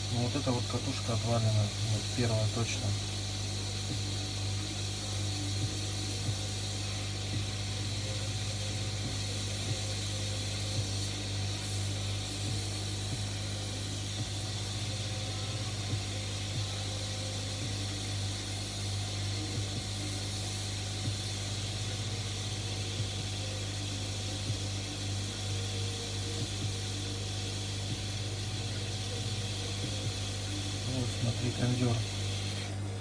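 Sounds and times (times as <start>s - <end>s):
hiss: 0.0s - 33.0s
low electrical hum: 0.0s - 33.0s.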